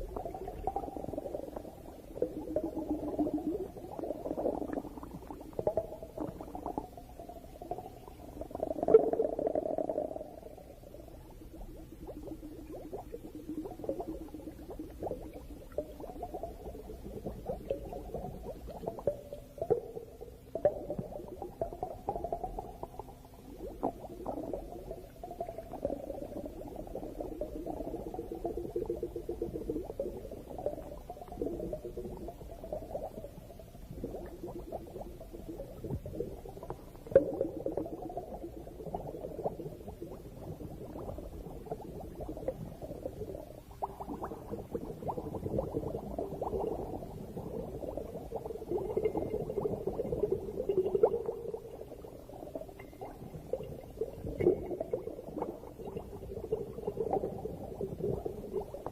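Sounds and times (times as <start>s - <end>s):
underwater regulator bubbles: 0.0s - 58.9s.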